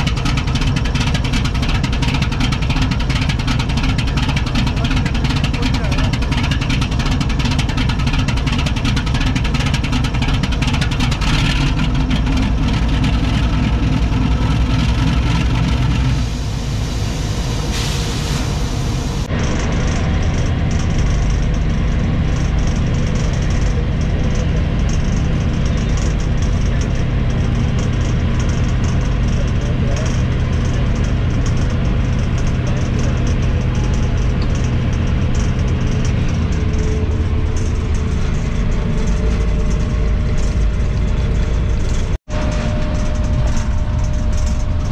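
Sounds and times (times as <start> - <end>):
diesel locomotive engine running: 0.0 - 44.9
train running heard from cab: 0.0 - 44.9.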